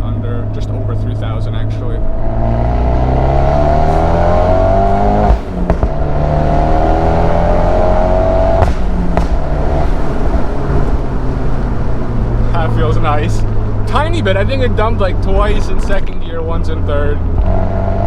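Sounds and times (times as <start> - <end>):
exhaust crack: 0.0 - 18.0
turbocharged car engine revving: 0.0 - 18.0.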